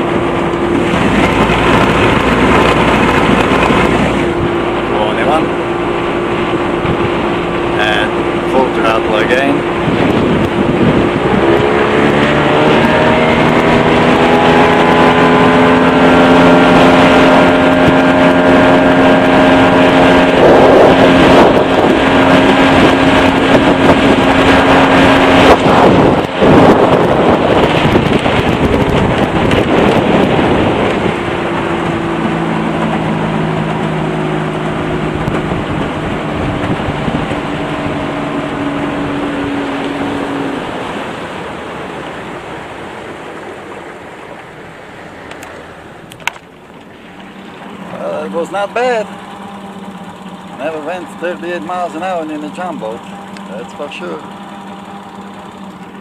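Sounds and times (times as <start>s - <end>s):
outboard motor at full throttle: 0.0s - 56.0s
wind and water rush: 0.0s - 56.0s.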